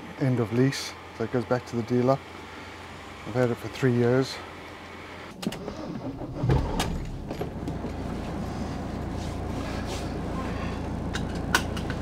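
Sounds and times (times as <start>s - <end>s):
van engine starting and idling: 0.0s - 12.0s.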